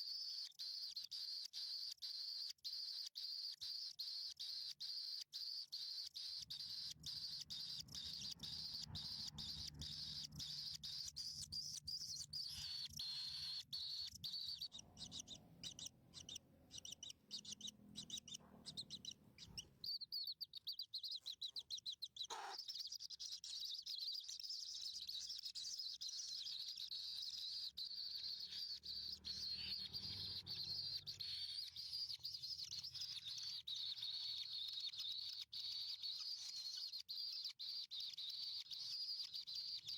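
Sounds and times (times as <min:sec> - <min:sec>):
nestlings chirping: 0:00.0 - 0:39.9.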